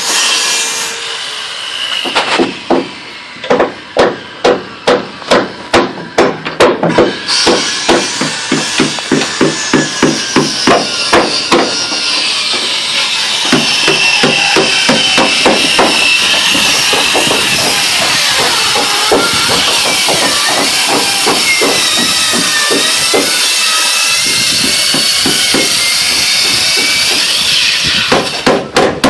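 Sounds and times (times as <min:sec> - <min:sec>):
hammer driving nails into timber: 0:02.0 - 0:12.7, 0:13.4 - 0:23.4, 0:24.6 - 0:29.0.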